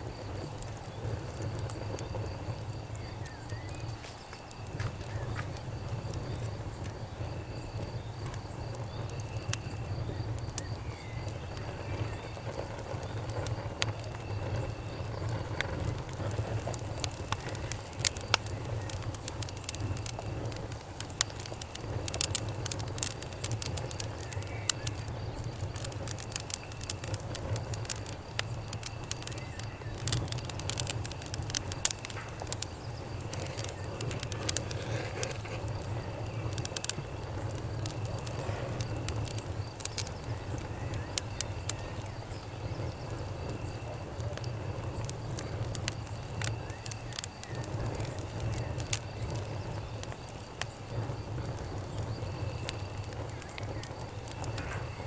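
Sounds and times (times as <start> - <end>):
campfire crackling and popping: 0.0 - 55.0
crickets chirping: 0.0 - 55.0.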